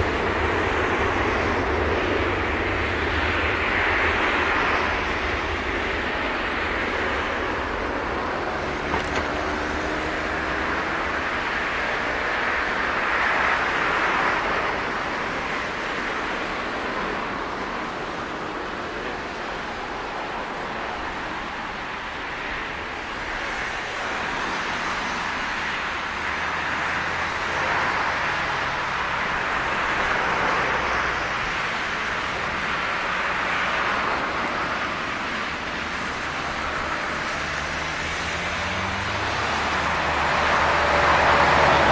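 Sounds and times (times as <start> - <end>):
jet engines at takeoff: 0.0 - 41.9.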